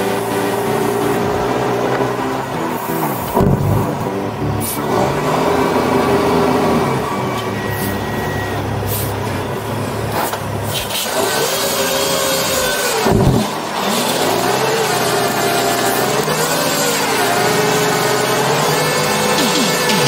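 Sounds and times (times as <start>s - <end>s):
truck diesel engine revving: 0.0s - 20.0s.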